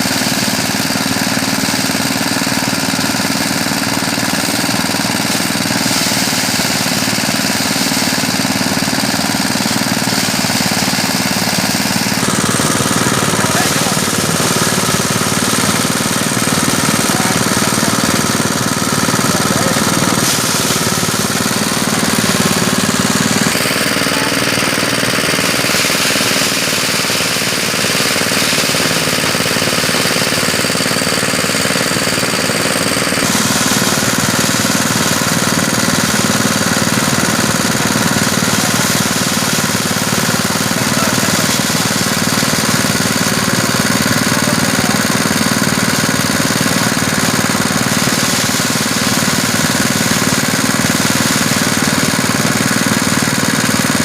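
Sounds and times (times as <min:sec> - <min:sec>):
rice thresher clattering: 0:00.0 - 0:54.0.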